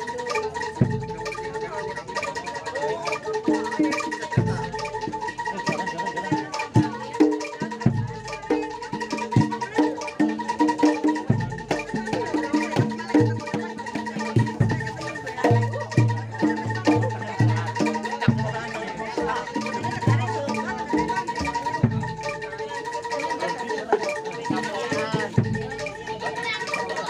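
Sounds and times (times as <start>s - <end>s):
held high tone: 0.0s - 27.0s
rhythmic drum strokes: 0.0s - 27.0s
struck metal percussion: 0.0s - 27.0s.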